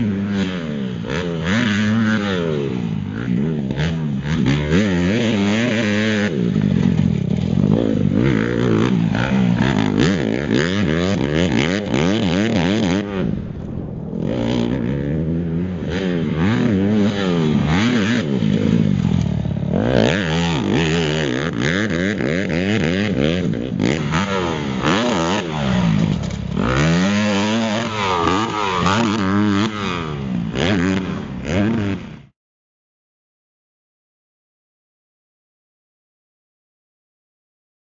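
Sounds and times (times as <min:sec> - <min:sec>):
motocross bike engine revving: 0:00.0 - 0:32.3.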